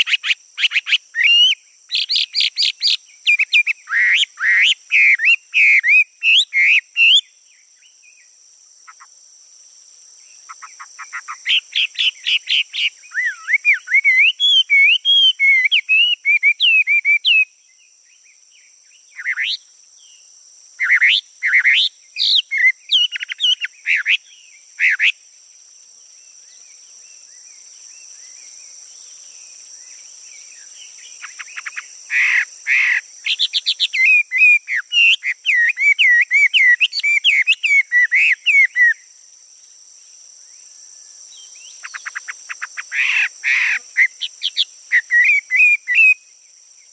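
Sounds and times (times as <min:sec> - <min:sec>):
high-pitched insect drone: 0:00.0 - 0:46.9
songbird singing: 0:00.0 - 0:46.9.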